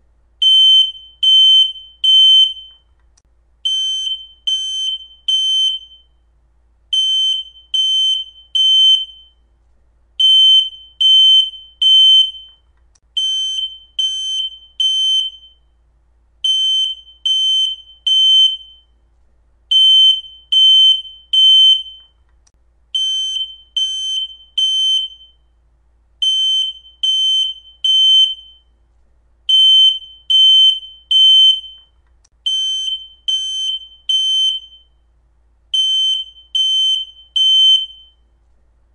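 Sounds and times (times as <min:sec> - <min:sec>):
smoke alarm beeping: 0:00.4 - 0:03.0, 0:03.7 - 0:06.2, 0:07.0 - 0:09.5, 0:10.2 - 0:15.7, 0:16.4 - 0:19.0, 0:19.7 - 0:22.2, 0:23.0 - 0:25.5, 0:26.2 - 0:28.8, 0:29.5 - 0:35.0, 0:35.8 - 0:38.3.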